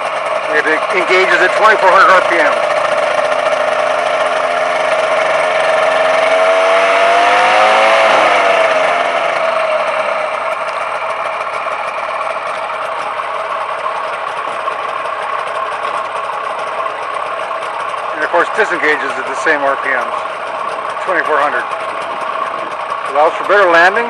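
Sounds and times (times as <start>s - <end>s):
aircraft engine revving: 0.0s - 24.0s.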